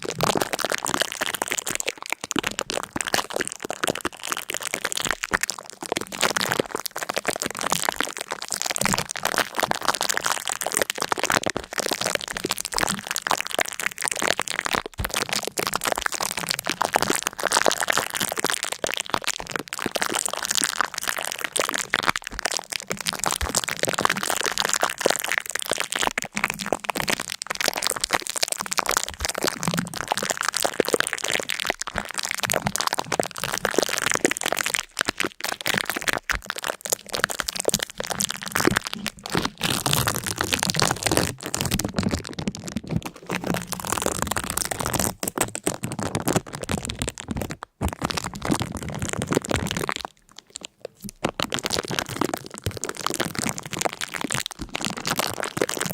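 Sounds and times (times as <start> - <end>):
crackling and crunching: 0.0 - 55.9.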